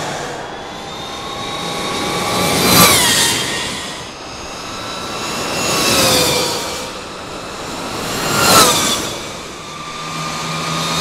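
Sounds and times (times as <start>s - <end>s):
electric motorcycle whine passing: 0.0s - 11.0s
rush of air and tyre noise: 0.0s - 11.0s.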